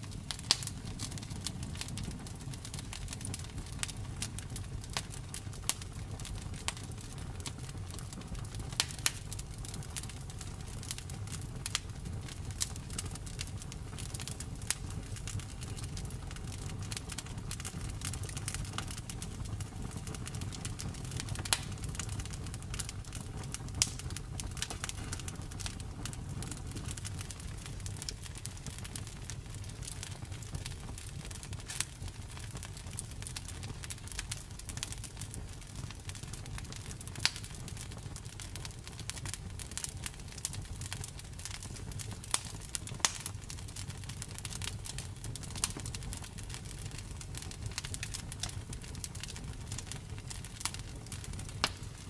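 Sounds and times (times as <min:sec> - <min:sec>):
fire low rumble: 0:00.0 - 0:52.0
wood fire crackling and popping: 0:00.0 - 0:52.0.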